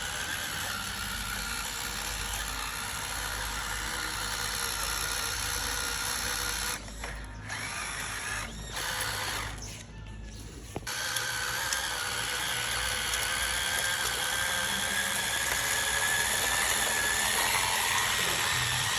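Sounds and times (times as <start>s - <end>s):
electric motors whirring with high whine: 0.0s - 18.9s.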